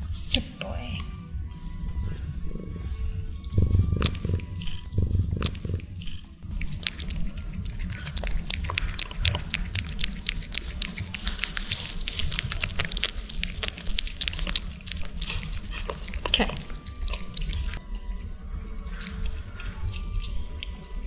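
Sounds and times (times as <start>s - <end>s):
low steady rumble: 0.0s - 21.0s
cat licking microphone: 1.0s - 21.0s.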